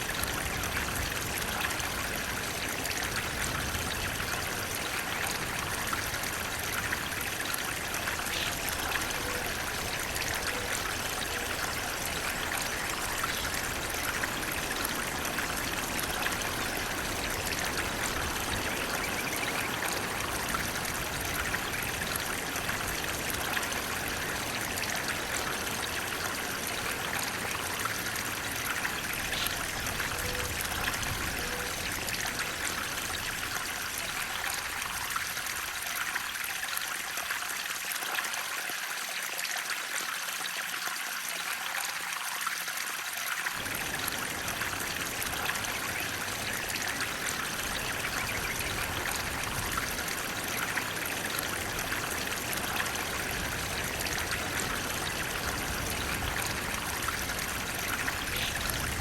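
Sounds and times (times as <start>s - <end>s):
water flowing and splashing: 0.0s - 59.0s.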